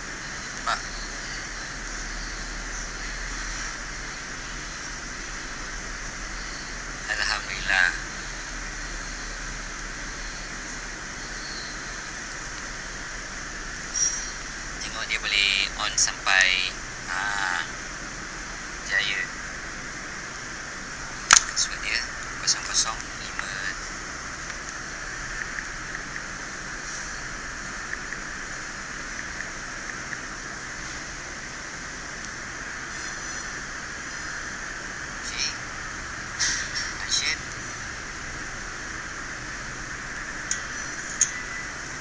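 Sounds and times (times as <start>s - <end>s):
background hiss: 0.0s - 42.0s
low electrical hum: 0.0s - 42.0s.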